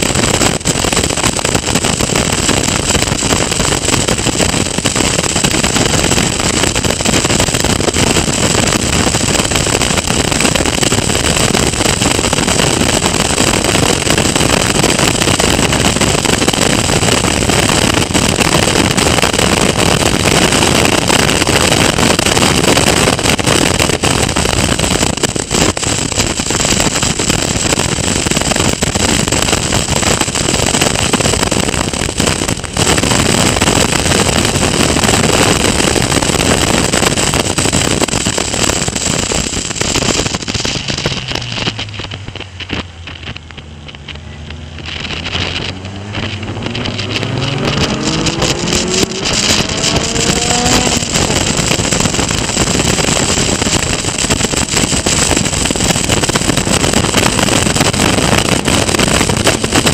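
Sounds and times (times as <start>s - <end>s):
race car engine: 0.0s - 37.2s, 37.8s - 59.9s
wind rushing over microphone: 0.0s - 59.9s.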